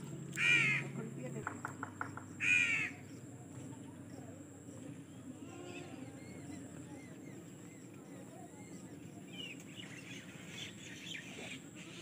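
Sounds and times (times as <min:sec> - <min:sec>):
low outdoor background noise: 0:00.0 - 0:12.0
birds chirping: 0:00.3 - 0:12.0.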